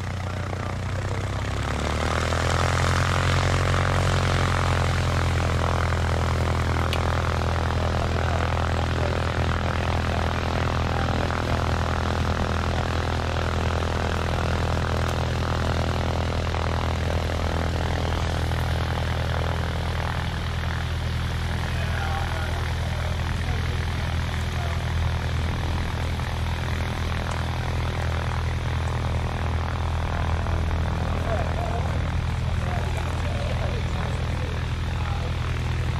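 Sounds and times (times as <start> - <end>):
engine droning hum: 0.0 - 35.9.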